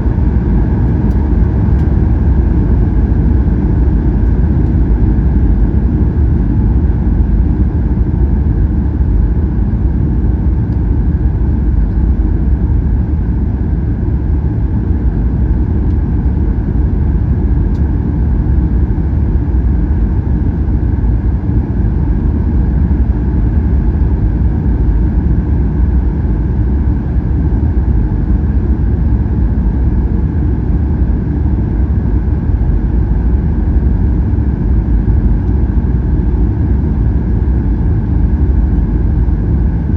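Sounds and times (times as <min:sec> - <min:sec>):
aircraft engine rumble: 0:00.0 - 0:39.9
steady high hum: 0:00.0 - 0:39.9.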